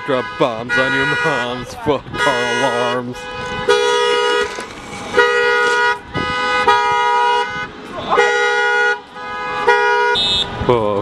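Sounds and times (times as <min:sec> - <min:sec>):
car alarm horn honks: 0:00.0 - 0:10.6.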